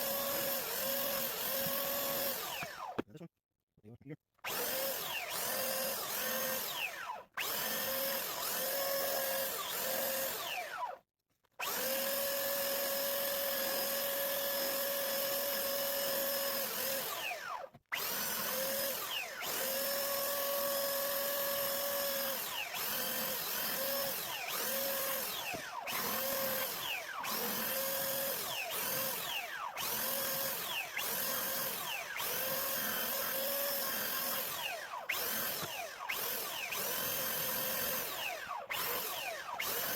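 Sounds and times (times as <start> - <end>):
power tool motor whining: 0.0 - 3.0, 4.4 - 11.0, 11.6 - 39.9.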